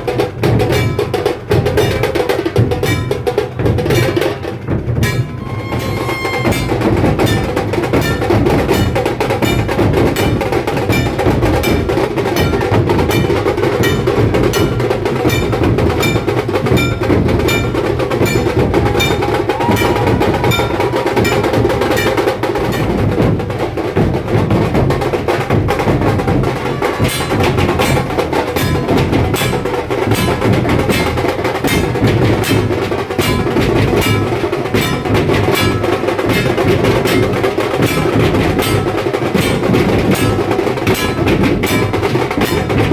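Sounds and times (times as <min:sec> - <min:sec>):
deep dhol drum beat: 0:00.0 - 0:42.9.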